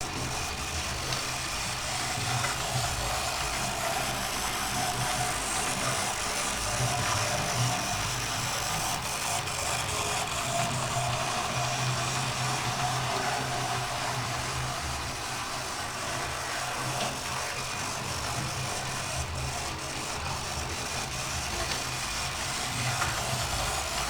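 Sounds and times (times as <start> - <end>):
model train motor whine: 0.0 - 24.0.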